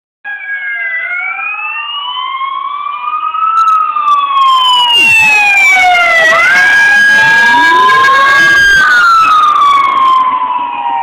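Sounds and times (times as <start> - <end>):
police sirens wailing: 0.3 - 11.0.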